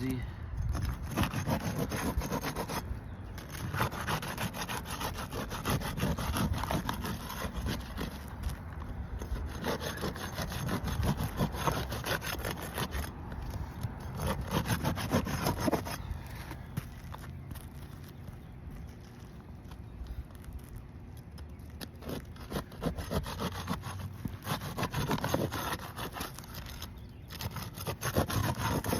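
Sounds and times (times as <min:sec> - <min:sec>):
pry tool scraping shingles: 0:00.0 - 0:18.1, 0:20.1 - 0:28.9.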